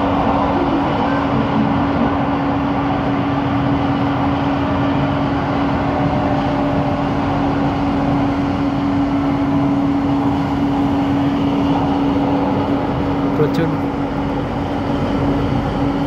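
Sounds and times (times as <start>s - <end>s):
train cabin rumble and hum: 0.0s - 16.0s.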